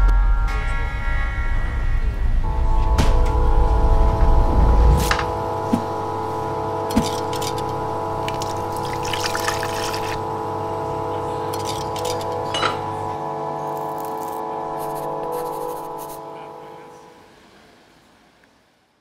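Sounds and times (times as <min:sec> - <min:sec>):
droning music chord: 0:00.0 - 0:17.5.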